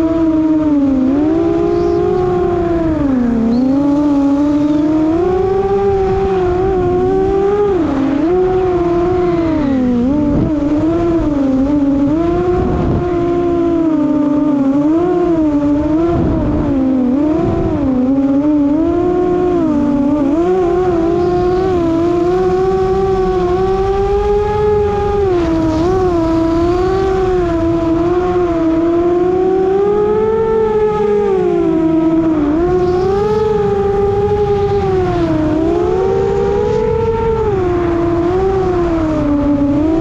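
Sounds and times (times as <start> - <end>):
drone motors whining: 0.0 - 40.0
wind rumble: 0.0 - 40.0.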